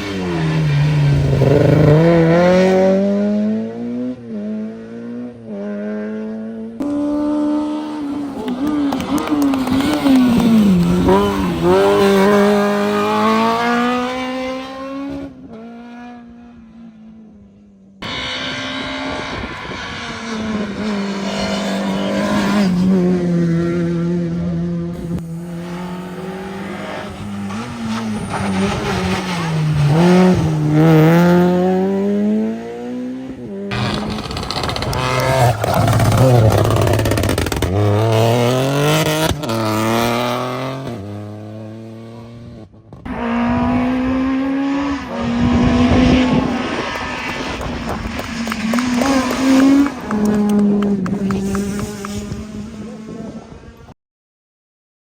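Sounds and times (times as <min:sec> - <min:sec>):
rally car engines at full throttle: 0:00.0 - 0:54.0.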